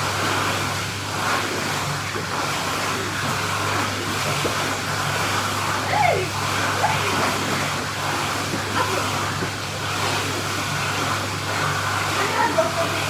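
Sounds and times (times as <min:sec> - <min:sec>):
pool water rushing and splashing: 0:00.0 - 0:13.0.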